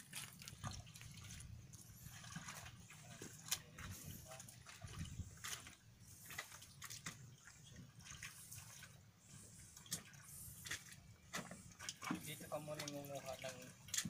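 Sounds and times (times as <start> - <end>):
wading in shallow water: 0.0 - 14.0.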